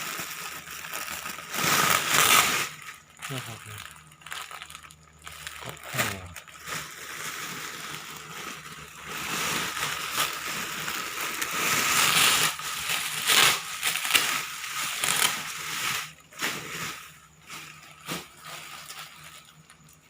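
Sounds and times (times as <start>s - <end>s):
packaging crinkling and rustling: 0.0s - 20.0s.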